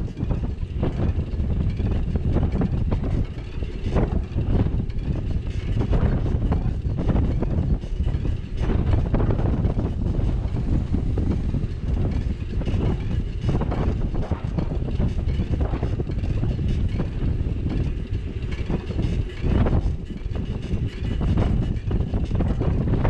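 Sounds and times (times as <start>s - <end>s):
road and street noise: 0.0s - 23.0s
wind buffeting microphone: 0.0s - 23.0s.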